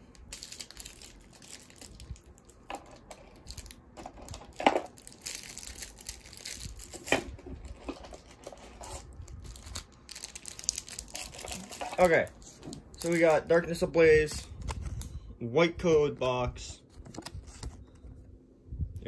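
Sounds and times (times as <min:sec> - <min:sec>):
packaging crinkling and rustling: 0:00.0 - 0:15.2, 0:16.0 - 0:18.3.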